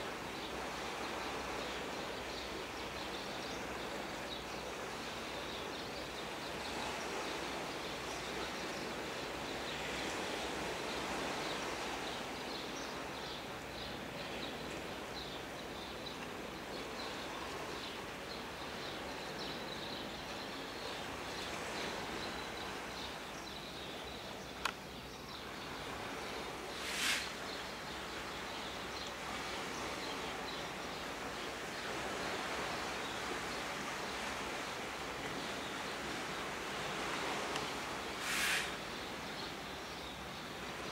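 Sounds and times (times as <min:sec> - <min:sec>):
outdoor ambient noise: 0:00.0 - 0:40.9.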